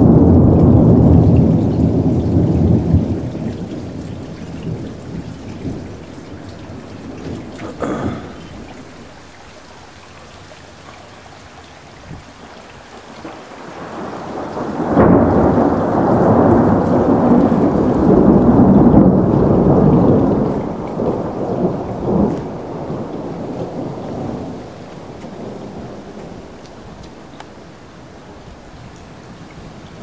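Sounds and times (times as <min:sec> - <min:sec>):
thunder rumbling: 0:00.0 - 0:09.4, 0:12.0 - 0:27.6.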